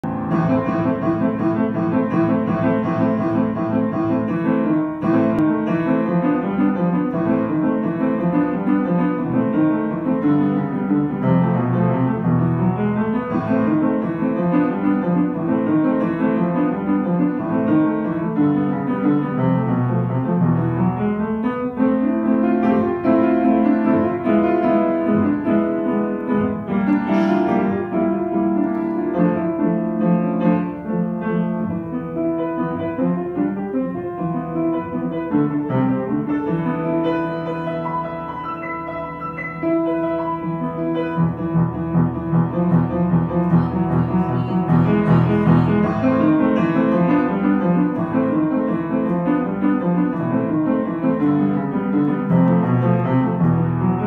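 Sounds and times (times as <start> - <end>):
upright piano playing: 0.0 - 54.0.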